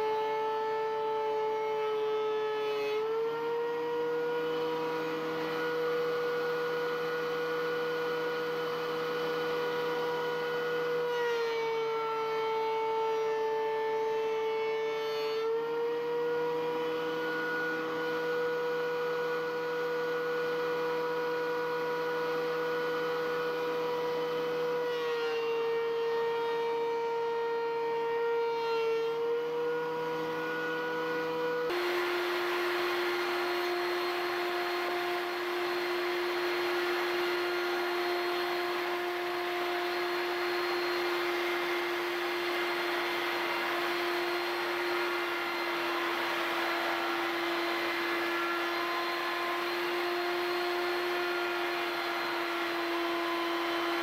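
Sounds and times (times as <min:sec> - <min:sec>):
thickness planer whining: 0:00.0 - 0:54.0.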